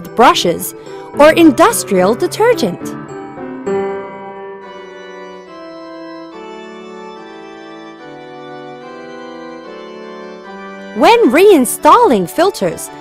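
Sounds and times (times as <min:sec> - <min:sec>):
organ-like keyboard chords: 0:00.0 - 0:13.0.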